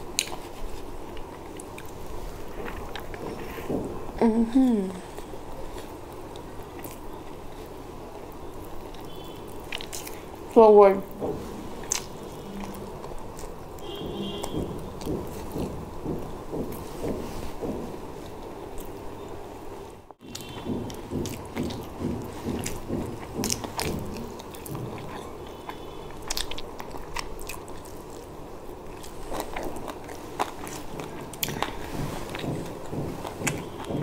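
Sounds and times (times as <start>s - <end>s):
person chewing food: 0.0s - 4.2s, 4.8s - 10.5s, 11.1s - 19.4s, 20.1s - 34.0s.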